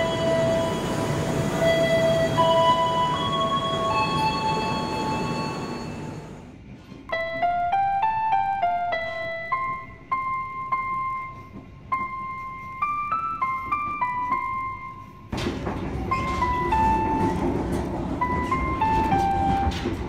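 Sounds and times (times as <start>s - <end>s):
slow piano melody: 0.0s - 20.0s
train running noise: 0.0s - 20.0s.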